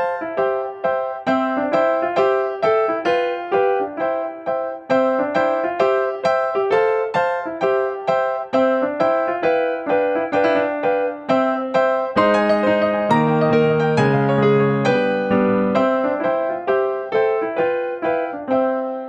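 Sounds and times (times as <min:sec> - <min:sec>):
keyboard melody: 0:00.0 - 0:19.0.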